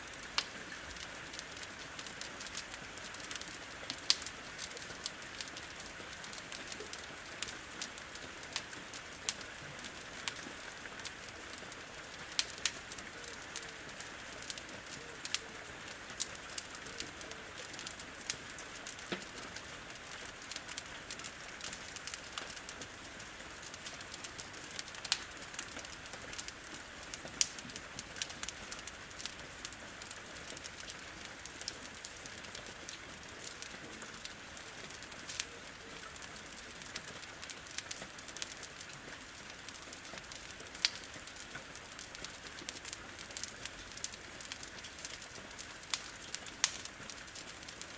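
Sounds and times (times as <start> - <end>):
steady rain hiss: 0.0 - 47.9
wood fire crackling and popping: 0.1 - 47.9.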